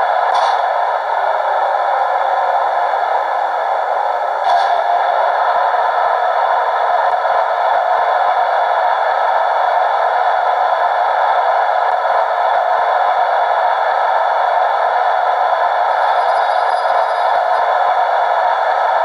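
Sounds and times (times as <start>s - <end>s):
electric locomotive hum and whine: 0.0s - 19.0s.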